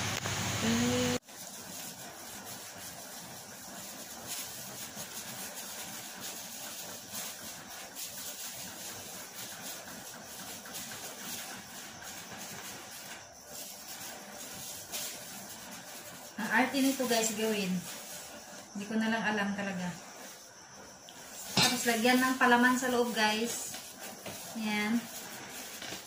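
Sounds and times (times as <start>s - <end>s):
kitchen background hiss: 0.0s - 26.0s
gloved hands rustling dough: 1.2s - 19.0s, 21.2s - 26.0s.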